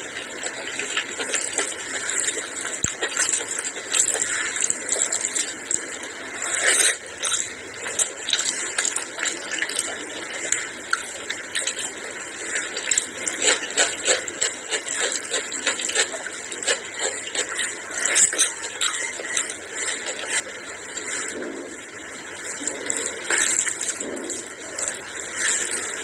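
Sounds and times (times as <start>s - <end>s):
wet chewing and lip-smacking: 0.2s - 21.7s, 22.5s - 26.0s
fingers squelching rice: 0.5s - 21.7s.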